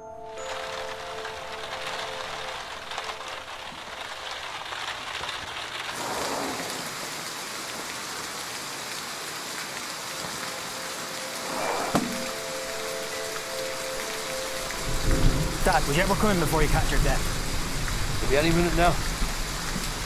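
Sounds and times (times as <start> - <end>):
steady rain falling: 0.2 - 20.0.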